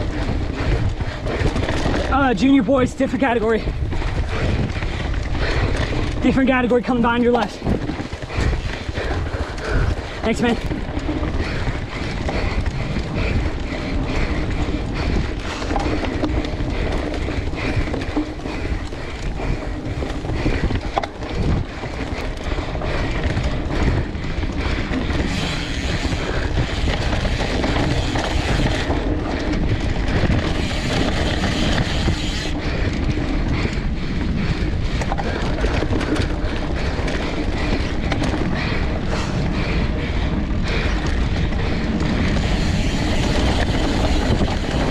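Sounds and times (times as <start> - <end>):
bike rattling over rough trail: 0.0 - 44.9
wind on microphone: 0.0 - 44.9.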